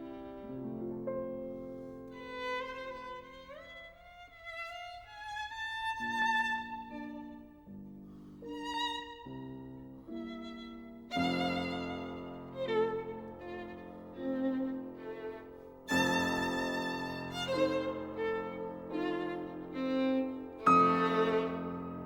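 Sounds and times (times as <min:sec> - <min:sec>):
string or piano accompaniment: 0:00.0 - 0:22.0
violin slow melody: 0:00.0 - 0:22.0.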